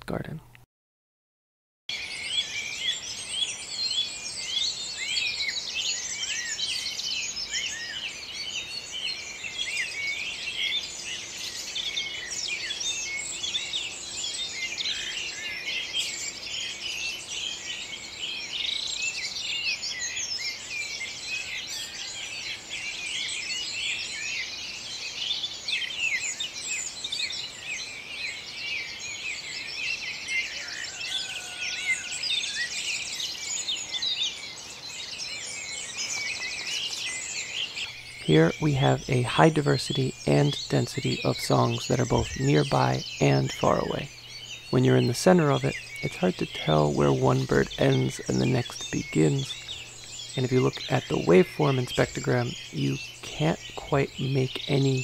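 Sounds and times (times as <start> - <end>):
dawn chorus of songbirds: 1.9 - 55.0.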